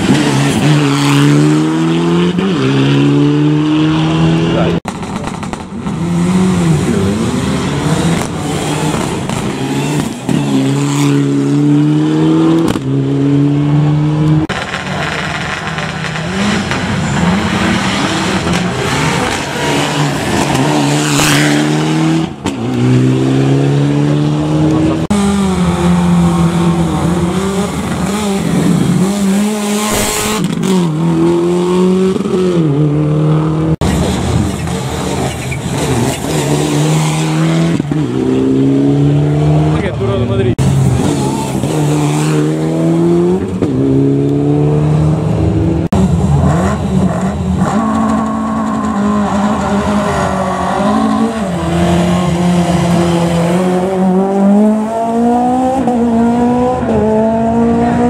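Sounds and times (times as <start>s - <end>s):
rally car engines accelerating: 0.0s - 58.0s.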